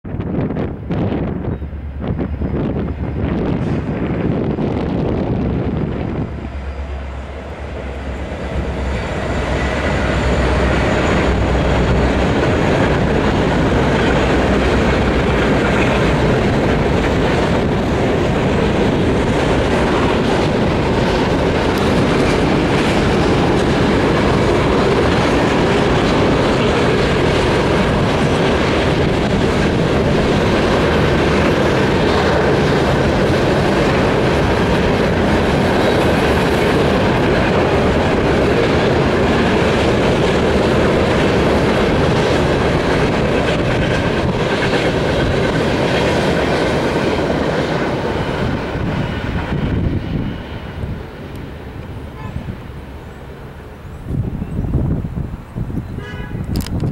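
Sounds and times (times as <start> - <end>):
diesel locomotive engines droning: 0.0 - 56.9
wheel-on-rail noise: 0.1 - 56.9.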